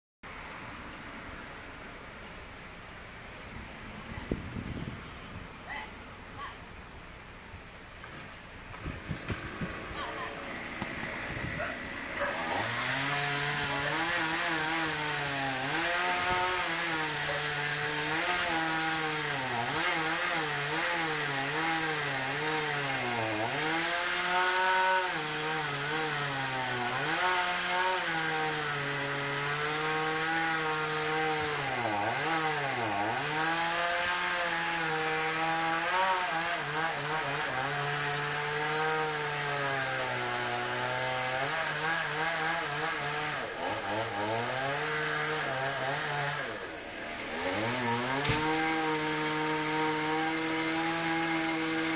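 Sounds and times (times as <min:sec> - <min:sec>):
chainsaw cutting: 0:07.7 - 0:51.9.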